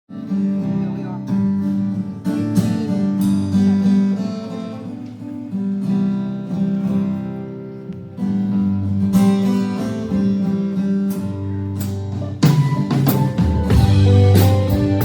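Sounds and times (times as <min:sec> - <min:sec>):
acoustic guitar strumming chords: 0:00.1 - 0:15.0.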